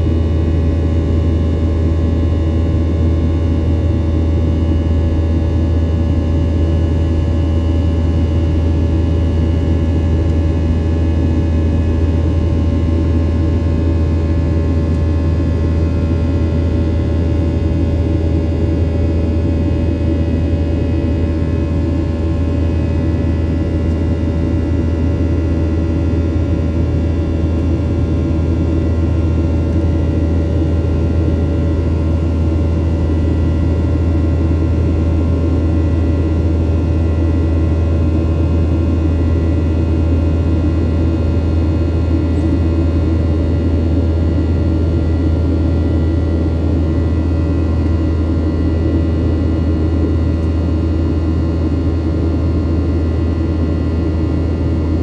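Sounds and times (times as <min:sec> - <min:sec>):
airplane cabin engine drone: 0:00.0 - 0:55.0.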